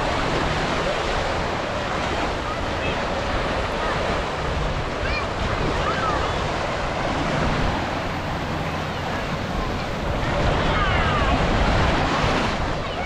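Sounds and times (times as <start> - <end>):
faint distant voices: 0.0 - 13.0
surf washing on sandy beach: 0.0 - 13.0
wind rumbling on microphone: 0.0 - 13.0.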